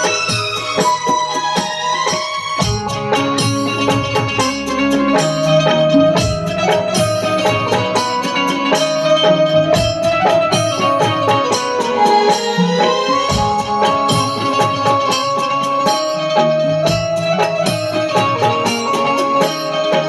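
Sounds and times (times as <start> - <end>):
driving percussion beat: 0.0 - 20.0
sustained melody line: 0.0 - 20.0.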